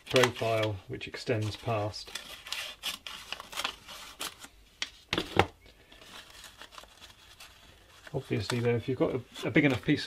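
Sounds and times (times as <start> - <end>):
faint paper handling: 0.0 - 10.0.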